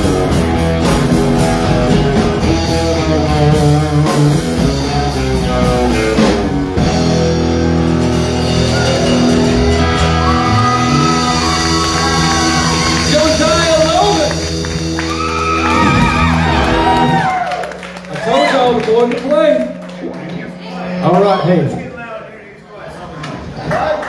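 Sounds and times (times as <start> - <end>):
electric guitar: 0.0 - 21.9
bass guitar: 0.0 - 22.0
drums: 0.0 - 22.0.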